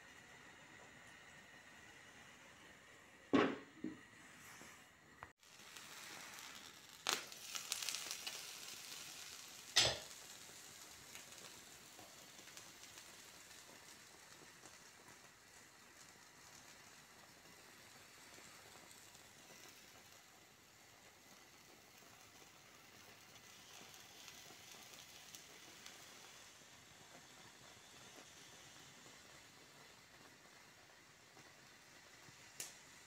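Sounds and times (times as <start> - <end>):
egg sizzling in a frying pan: 0.0 - 33.0.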